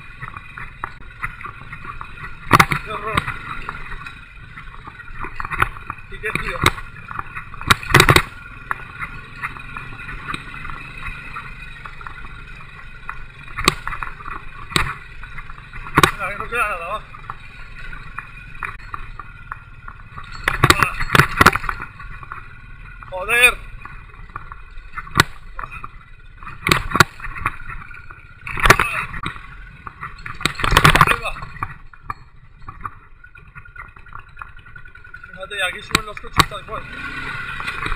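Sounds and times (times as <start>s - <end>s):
knocks and clatter from riding: 0.0s - 37.9s
motorcycle engine rumbling: 0.0s - 37.9s.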